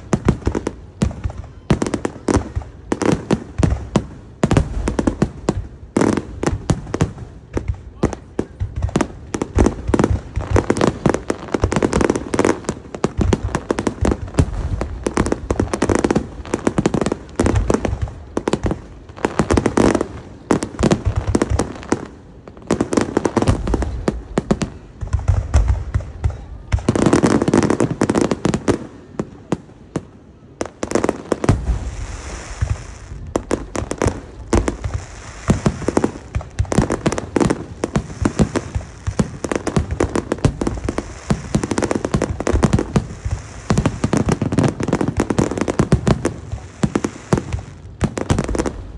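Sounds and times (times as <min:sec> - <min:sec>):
fireworks bursting and booming: 0:00.0 - 0:48.9
hissing crackle of fireworks: 0:00.0 - 0:48.9.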